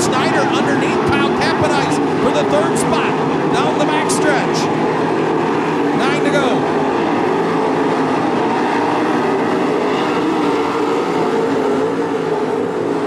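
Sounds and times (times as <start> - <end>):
racing car engines roaring: 0.0 - 13.0.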